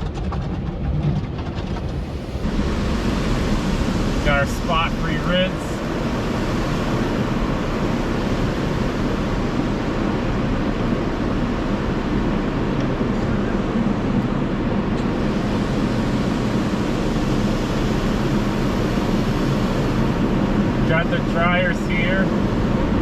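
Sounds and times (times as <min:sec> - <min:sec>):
car wash rushing noise: 0:00.0 - 0:23.0.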